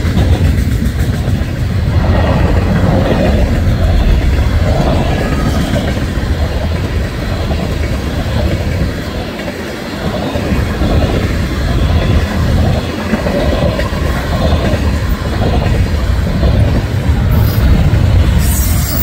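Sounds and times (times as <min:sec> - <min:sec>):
steel wheels running over rails: 0:00.0 - 0:19.0.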